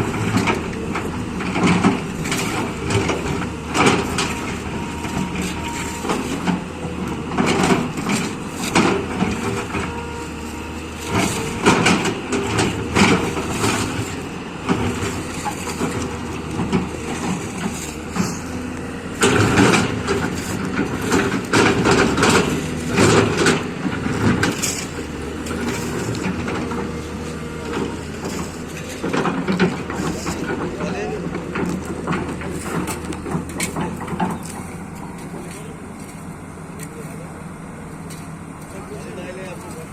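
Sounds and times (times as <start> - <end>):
diesel engine running: 0.0 - 39.9
digging crunches and knocks: 0.0 - 39.9.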